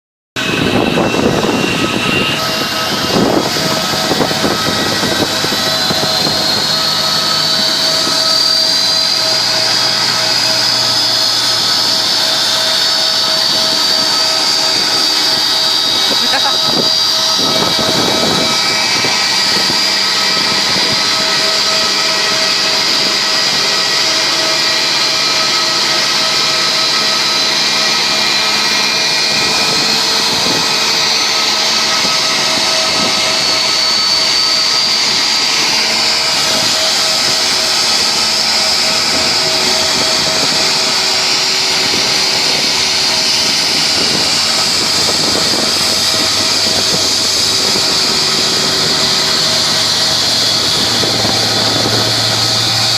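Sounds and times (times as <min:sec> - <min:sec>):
jet turbine whine and rush: 0:00.4 - 0:52.9.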